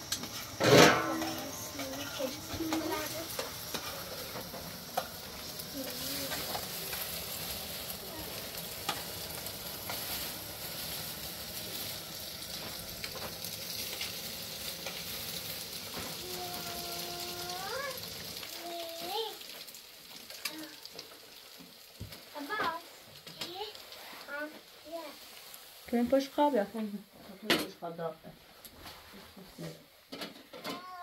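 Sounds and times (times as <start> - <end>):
crackles and clicks: 0.0 - 26.5
steady hiss: 0.0 - 27.2.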